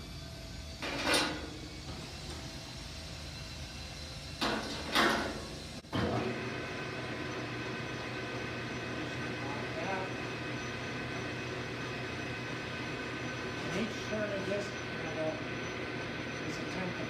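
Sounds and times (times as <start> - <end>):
lathe machine hum: 0.0 - 17.0.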